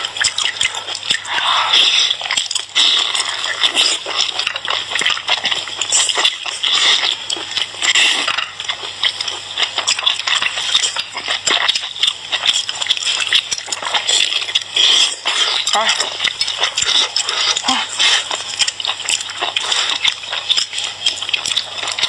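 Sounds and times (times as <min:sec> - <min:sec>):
wet chewing and slurping: 0:00.0 - 0:22.0.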